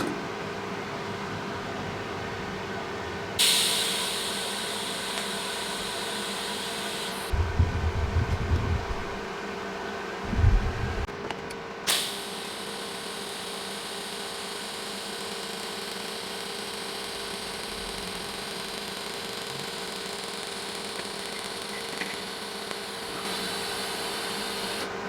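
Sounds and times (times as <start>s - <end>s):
cooling fan humming: 0.0s - 25.0s.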